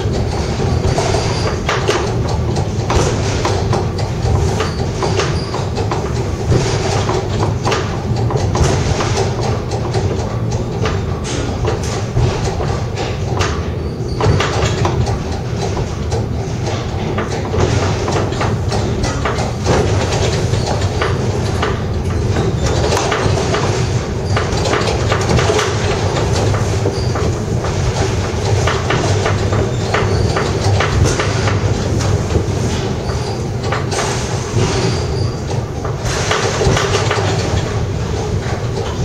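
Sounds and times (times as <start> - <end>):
funicular car rumbling on rails: 0.0 - 39.0
wheels clicking and rattling on track: 0.0 - 39.0.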